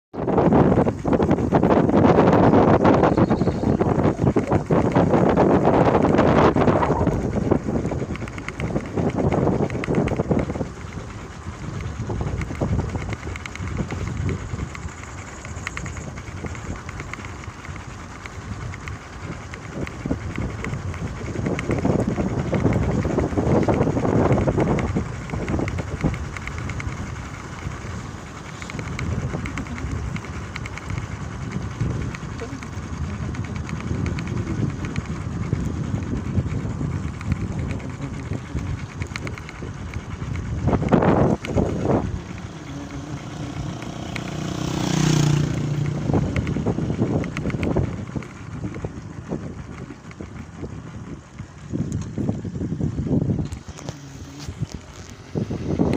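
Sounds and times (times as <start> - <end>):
wind buffeting microphone: 0.1 - 55.9.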